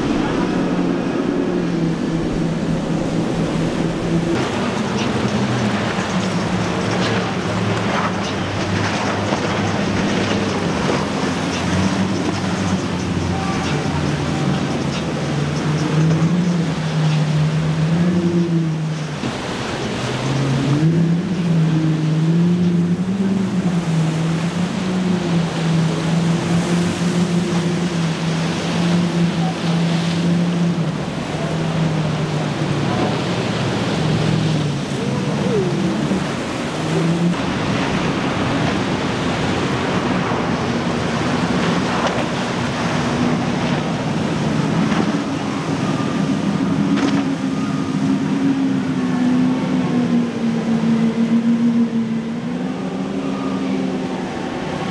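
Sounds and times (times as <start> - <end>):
boat motors running: 0.0 - 54.9
waves and rough water: 0.0 - 54.9.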